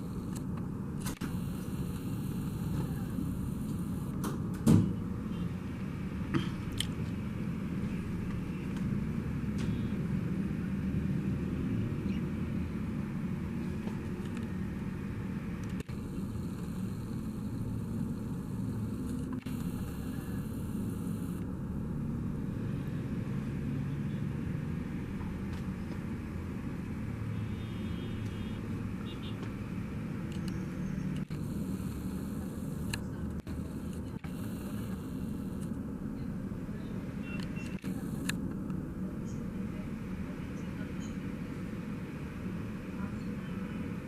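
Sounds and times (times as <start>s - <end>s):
low rumble of road traffic: 0.0s - 44.0s.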